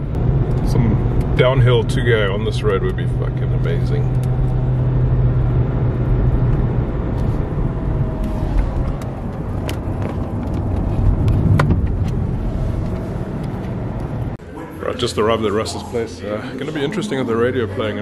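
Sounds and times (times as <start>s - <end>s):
car cabin road and engine hum: 0.0s - 18.0s.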